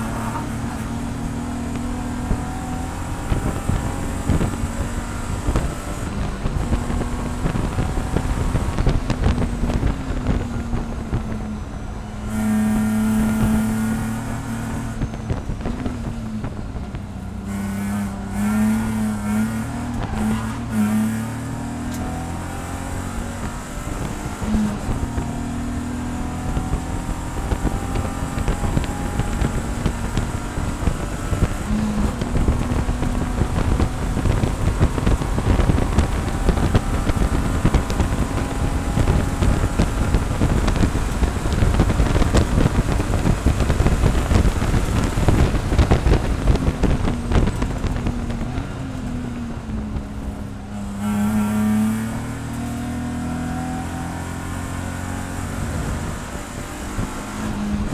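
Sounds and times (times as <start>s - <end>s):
race car engine revving: 0.0s - 57.9s
wind and road noise: 0.0s - 57.9s.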